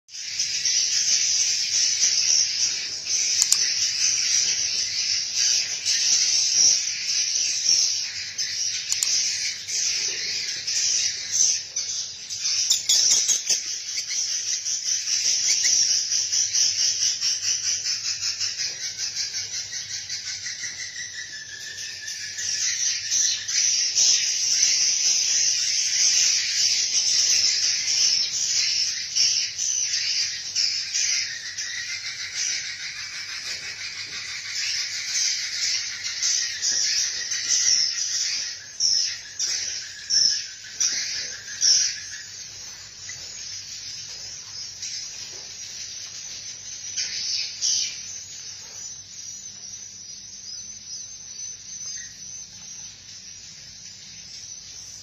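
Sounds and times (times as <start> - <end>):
insects and birds chirping: 0.1 - 55.0.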